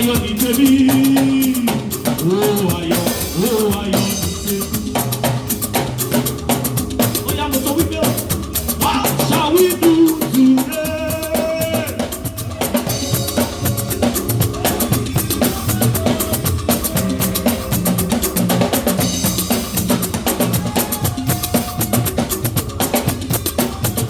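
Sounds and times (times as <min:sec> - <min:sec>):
band playing upbeat instrumental: 0:00.0 - 0:24.0
drum kit fast beat: 0:00.0 - 0:24.0.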